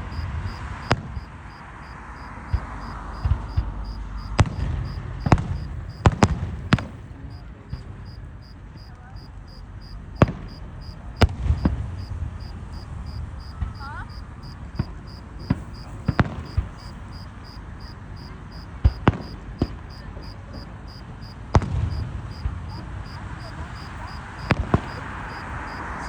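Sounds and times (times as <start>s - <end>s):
cricket chirping: 0.0s - 26.0s
fireworks banging: 0.0s - 26.0s.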